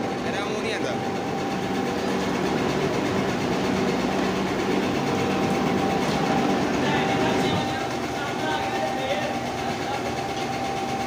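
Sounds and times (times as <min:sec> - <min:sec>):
machinery mechanical din: 0:00.0 - 0:11.0.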